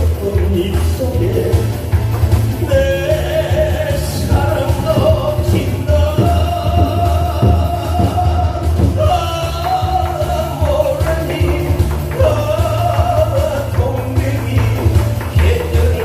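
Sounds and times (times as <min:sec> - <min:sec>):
backing track with bass beat: 0:00.0 - 0:16.0
person singing: 0:02.6 - 0:16.0.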